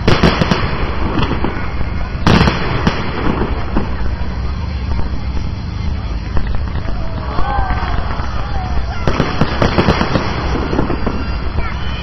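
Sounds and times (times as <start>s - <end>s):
firework bang: 0.0s - 12.0s
firework crack: 0.0s - 12.0s
rumble of firework bursts: 0.0s - 12.0s.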